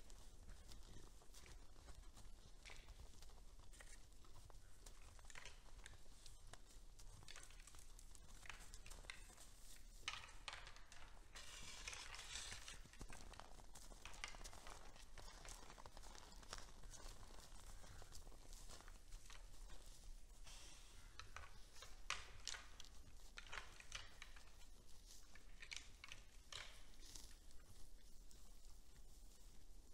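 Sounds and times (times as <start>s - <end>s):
deer pulling hay crackling: 0.0s - 29.9s.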